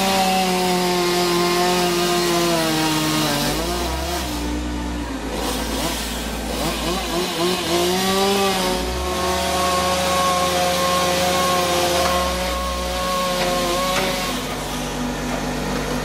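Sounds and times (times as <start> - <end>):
chainsaw revving and cutting: 0.0 - 16.0.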